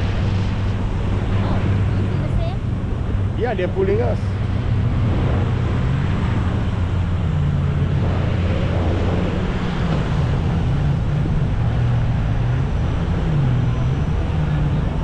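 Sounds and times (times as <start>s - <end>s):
boat engine low hum: 0.0s - 15.0s
wind rushing over microphone: 0.0s - 15.0s.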